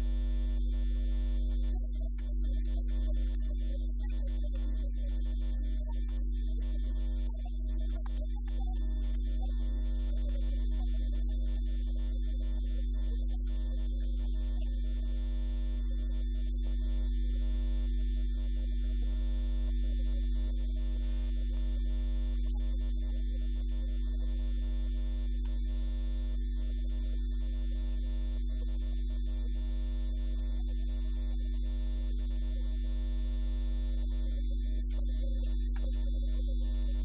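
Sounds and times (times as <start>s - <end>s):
low electrical hum: 0.0s - 37.0s.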